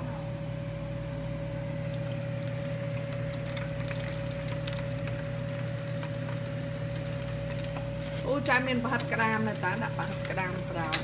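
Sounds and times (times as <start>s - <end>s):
steady hum: 0.0s - 11.0s
oil popping: 1.8s - 11.0s
meat sizzling in hot oil: 1.9s - 10.8s.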